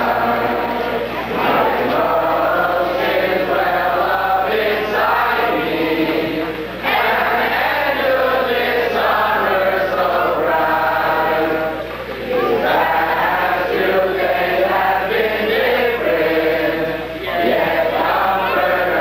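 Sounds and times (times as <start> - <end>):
crowd singing in unison: 0.0 - 19.0.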